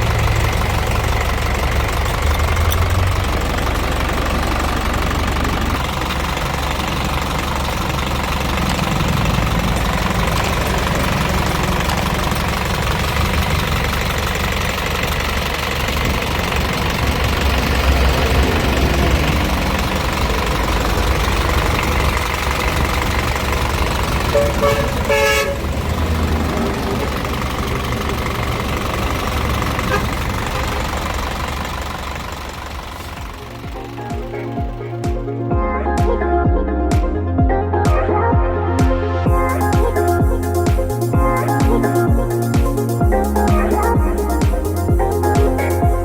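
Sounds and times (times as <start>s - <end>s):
diesel truck engine idling: 0.0s - 46.0s.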